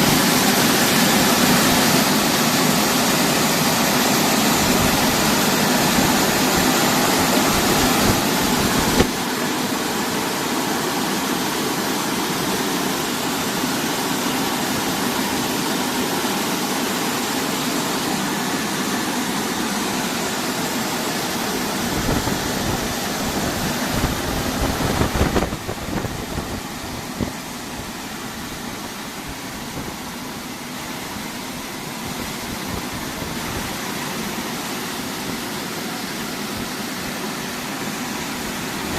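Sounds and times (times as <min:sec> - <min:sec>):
car wash machine noise: 0:00.0 - 0:38.9
water spray rushing: 0:00.0 - 0:38.9.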